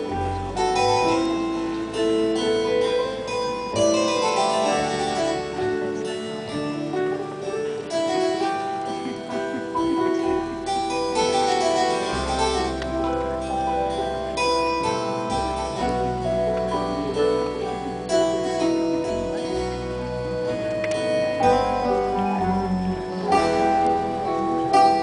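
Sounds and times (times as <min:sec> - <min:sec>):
low bass notes: 0:00.0 - 0:25.0
plucked melody: 0:00.0 - 0:25.0.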